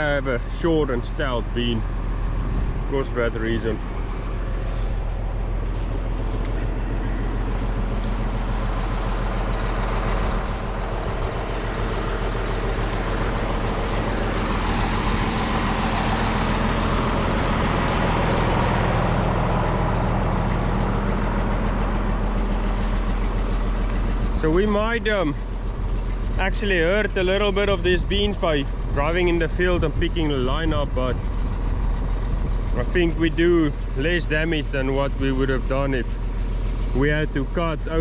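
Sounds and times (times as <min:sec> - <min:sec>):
road and wind noise: 0:00.0 - 0:38.0
vehicle engine humming: 0:00.0 - 0:38.0.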